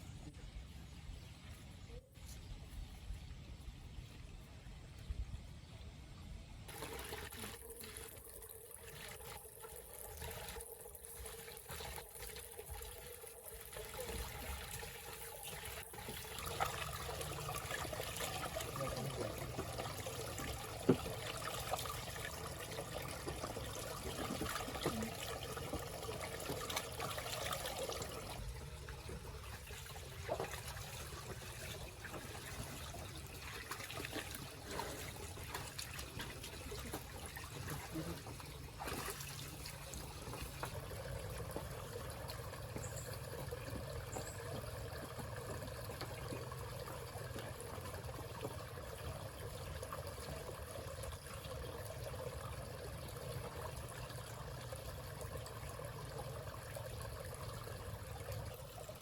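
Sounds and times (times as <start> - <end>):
water trickling: 6.7 - 59.0.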